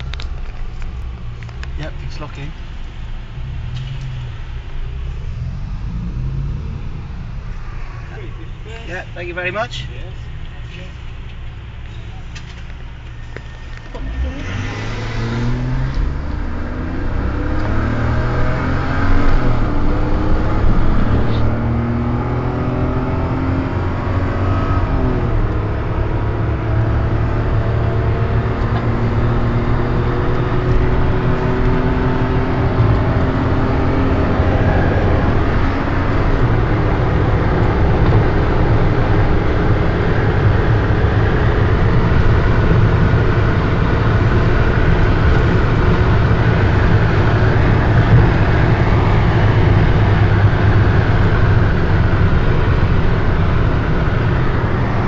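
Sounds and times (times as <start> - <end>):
car engine at full throttle: 0.0 - 55.0
road and wind noise: 0.0 - 55.0.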